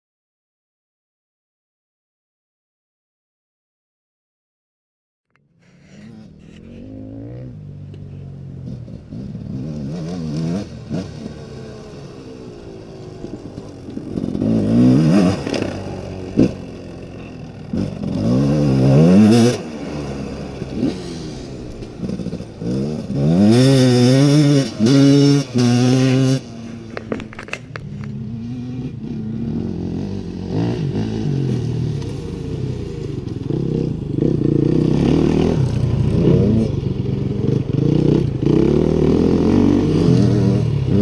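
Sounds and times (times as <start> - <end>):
dirt bike engine revving: 5.7 - 41.0.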